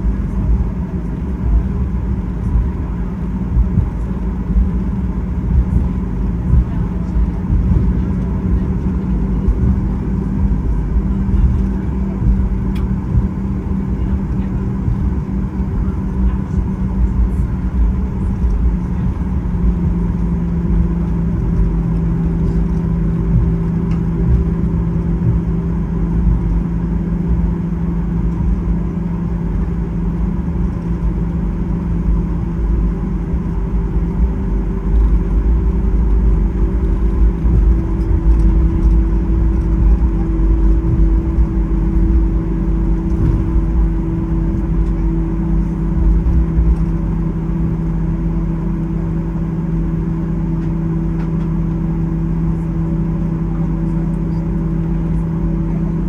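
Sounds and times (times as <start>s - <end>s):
vehicle engine rumble from inside: 0.0s - 56.0s.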